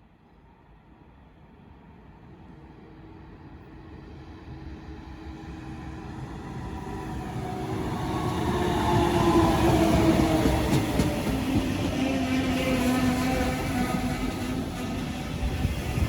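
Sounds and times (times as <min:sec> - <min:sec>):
train humming tone: 0:02.7 - 0:16.0.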